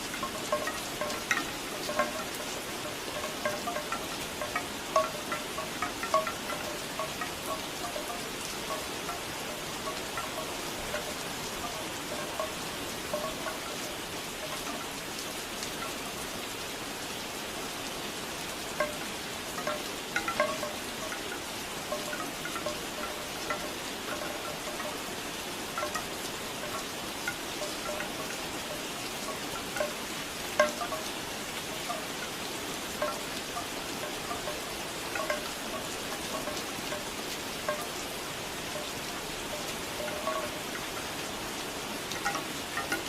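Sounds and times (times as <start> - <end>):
bamboo wind chimes knocking: 0.0 - 16.6, 18.7 - 43.0
steady rain: 0.0 - 43.0.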